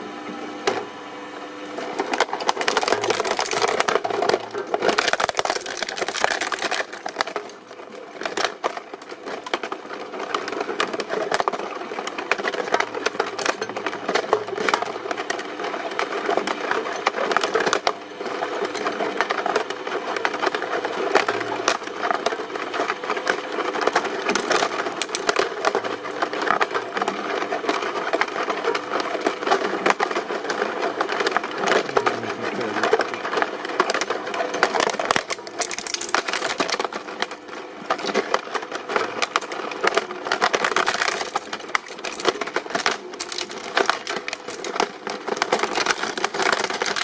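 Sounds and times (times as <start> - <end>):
shredding machine grinding: 0.0 - 47.0.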